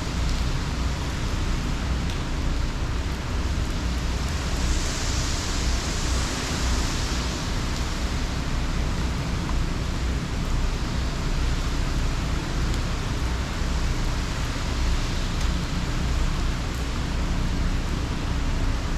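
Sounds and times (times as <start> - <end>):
heavy rain hissing: 0.0 - 18.9
low wind rumble: 0.0 - 18.9.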